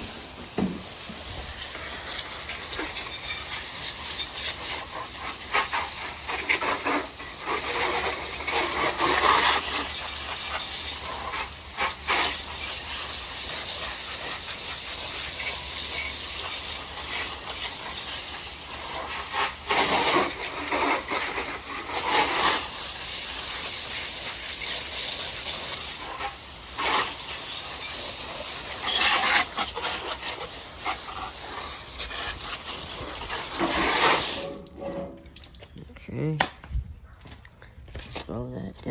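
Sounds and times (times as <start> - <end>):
garden hose spraying water: 0.0 - 38.9.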